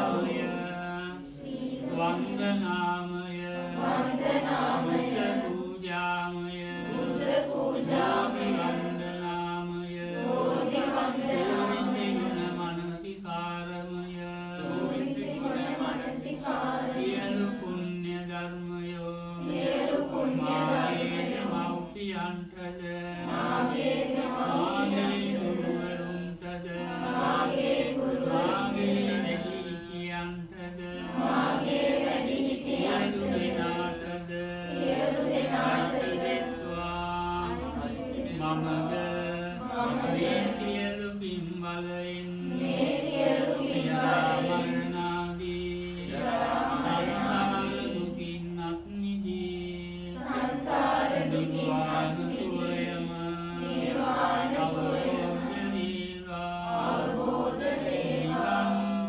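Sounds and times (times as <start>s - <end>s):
group chanting: 0.0s - 59.0s.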